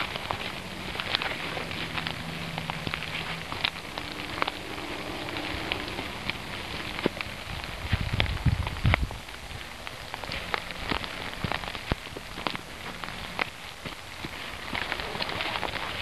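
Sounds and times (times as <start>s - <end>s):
footsteps crunching dry leaves: 0.0s - 16.0s.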